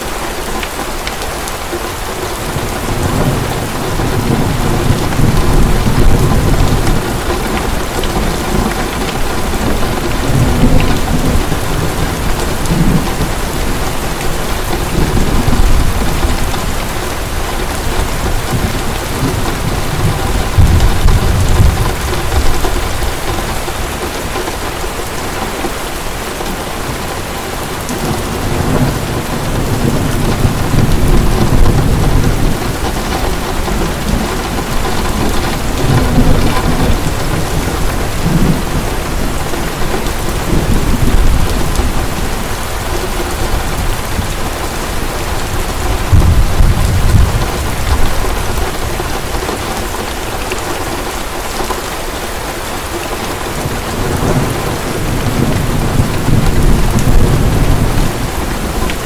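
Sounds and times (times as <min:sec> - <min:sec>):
heavy rain pouring: 0:00.0 - 0:59.0
thunder rumbling: 0:02.3 - 0:51.3, 0:53.2 - 0:59.0.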